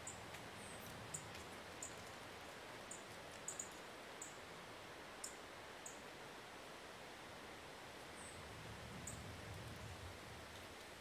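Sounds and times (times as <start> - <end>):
mountain breeze hiss: 0.0 - 11.0.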